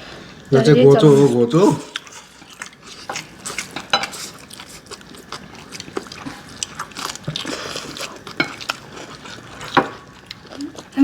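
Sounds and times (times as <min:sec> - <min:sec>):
people chewing noodles: 0:00.9 - 0:11.0.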